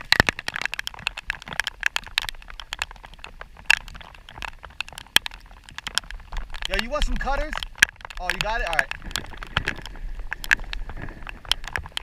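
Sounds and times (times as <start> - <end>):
raindrops tapping microphone: 0.0 - 12.0.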